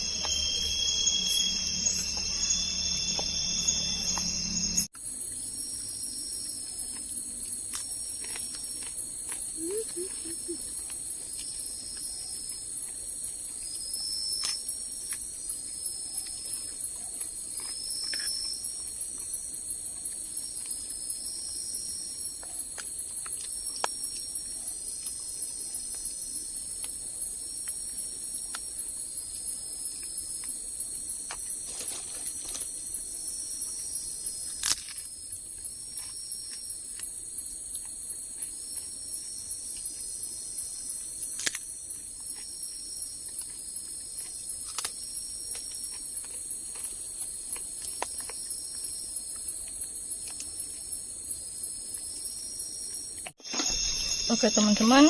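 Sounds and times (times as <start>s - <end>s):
insect chirping calls: 0.0s - 55.0s
insect drone: 0.0s - 55.0s.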